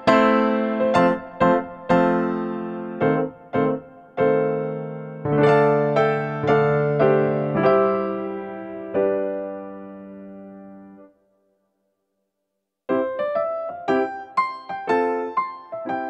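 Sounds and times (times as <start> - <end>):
piano music: 0.0 - 11.2, 12.9 - 16.0.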